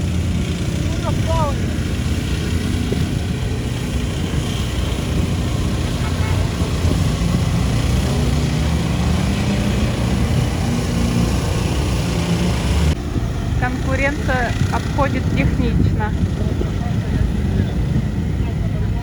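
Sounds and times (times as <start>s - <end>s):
vehicle engine running under load: 0.0s - 19.0s.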